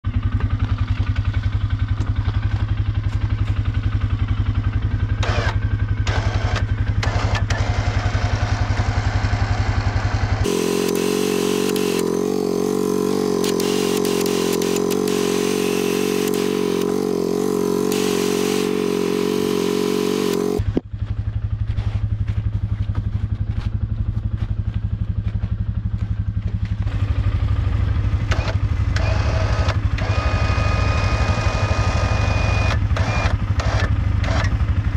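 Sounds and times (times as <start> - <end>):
four-wheeler engine idling: 0.0 - 34.9.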